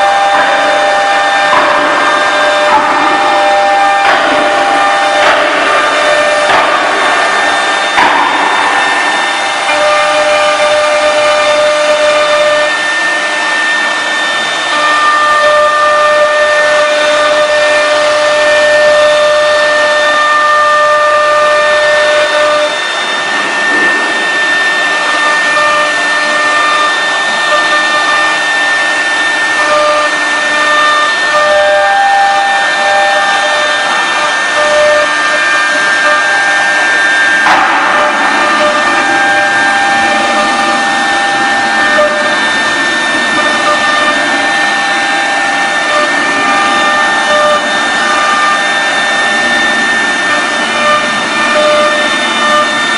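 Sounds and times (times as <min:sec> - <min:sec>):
router spindle whining: 0:00.0 - 0:52.9
stepper motor tones: 0:00.0 - 0:52.9.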